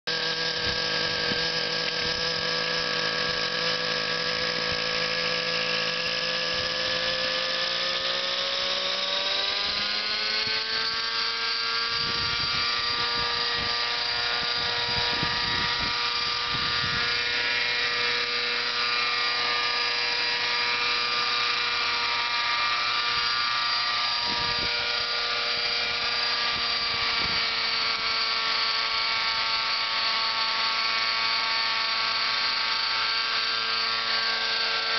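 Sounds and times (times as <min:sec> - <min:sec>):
model helicopter engine whine: 0:00.1 - 0:34.9.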